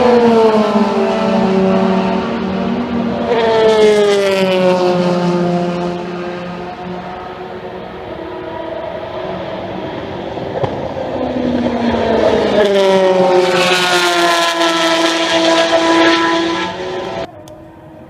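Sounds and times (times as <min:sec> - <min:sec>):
race car passing by: 0:00.0 - 0:17.3.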